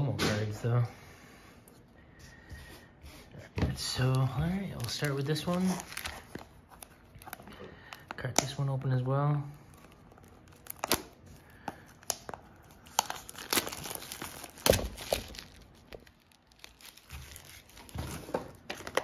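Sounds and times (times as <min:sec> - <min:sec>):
plastic wrap crinkling and tearing: 0:03.8 - 0:19.0.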